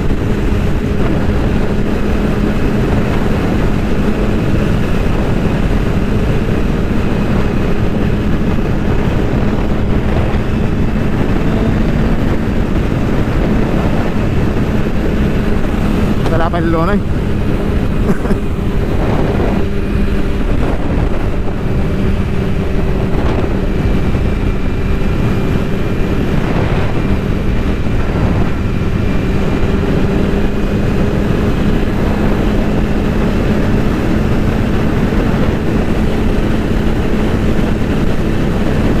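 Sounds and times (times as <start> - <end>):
road rumble: 0.0 - 39.0
vehicle engine droning: 0.0 - 39.0
wind noise: 0.0 - 39.0.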